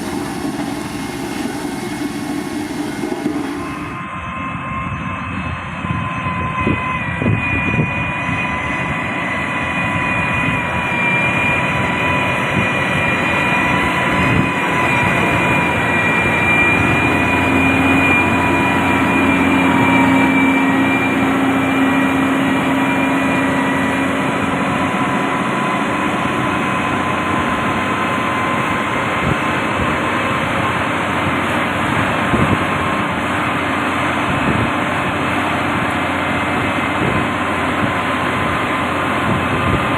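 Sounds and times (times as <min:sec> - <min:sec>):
diesel machinery engine rumble: 0:00.0 - 0:04.0, 0:08.3 - 0:39.9
continuous high whine: 0:00.0 - 0:39.9.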